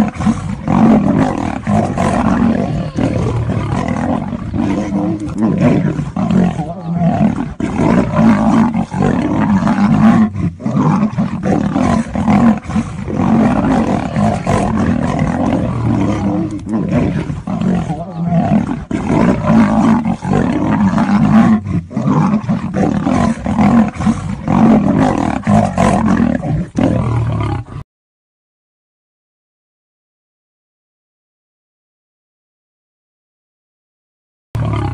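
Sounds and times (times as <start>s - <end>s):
big cats roaring while fighting: 0.0s - 27.8s, 34.6s - 34.9s.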